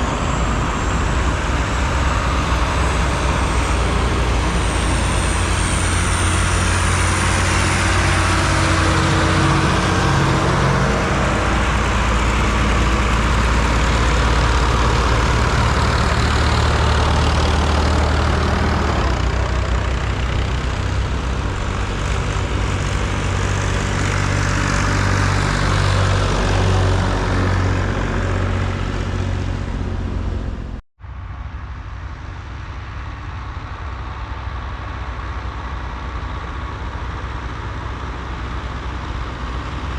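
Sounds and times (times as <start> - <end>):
road noise: 0.0 - 39.9
tractor engines running: 0.0 - 39.9.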